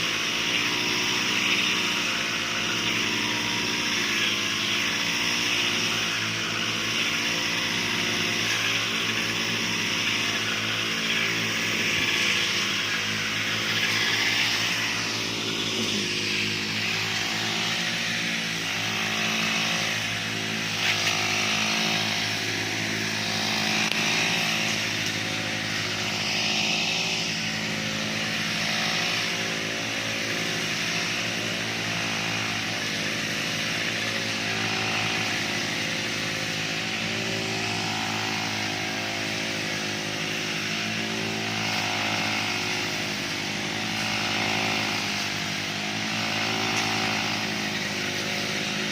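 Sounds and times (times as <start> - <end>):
brush cutter cutting grass: 0.0 - 48.9.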